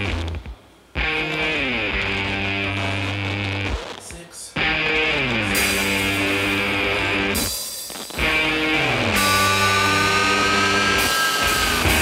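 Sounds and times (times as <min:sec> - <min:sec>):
rock music with guitar: 0:00.0 - 0:04.0, 0:04.6 - 0:12.0.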